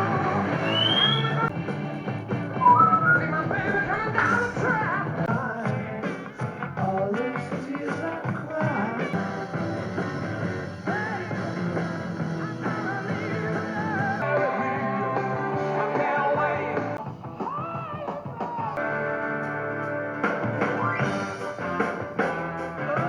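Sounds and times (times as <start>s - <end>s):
rock and roll music: 0.0s - 23.0s.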